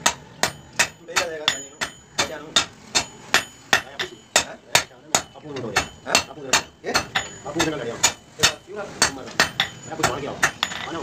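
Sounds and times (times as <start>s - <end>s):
hammer striking metal on anvil: 0.0s - 11.0s.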